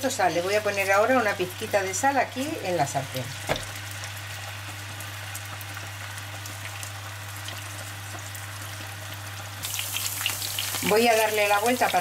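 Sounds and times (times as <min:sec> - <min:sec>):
potatoes sizzling in hot oil: 0:00.0 - 0:12.0.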